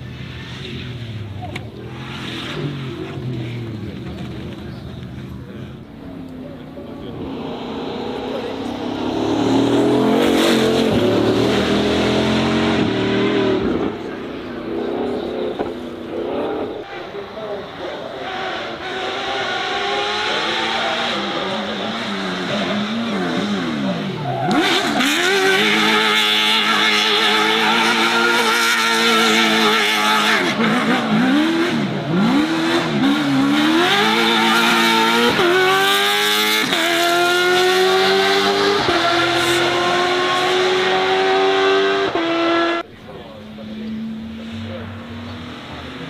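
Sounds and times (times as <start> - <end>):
racing car engine revving: 0.0 - 46.0.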